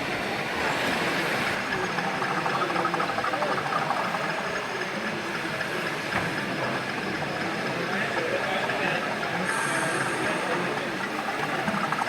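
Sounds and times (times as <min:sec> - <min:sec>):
hiss-like hall ambience: 0:00.0 - 0:12.0
fine rapid ticking: 0:01.6 - 0:12.0.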